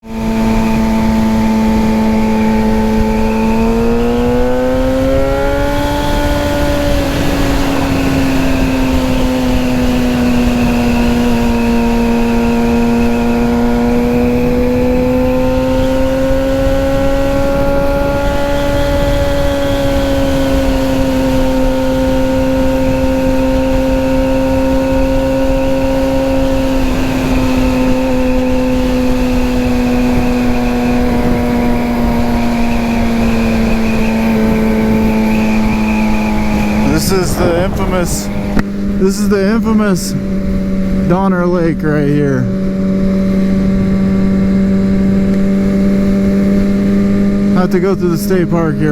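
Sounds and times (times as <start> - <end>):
motorcycle engine cruising: 0.0 - 48.9
wind noise: 0.0 - 48.9.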